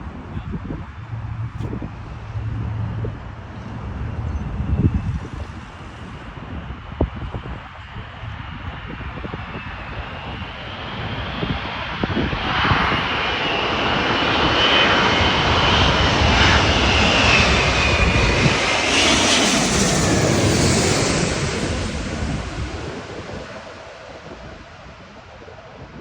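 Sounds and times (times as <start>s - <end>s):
jet airliner passing by: 0.0s - 26.0s.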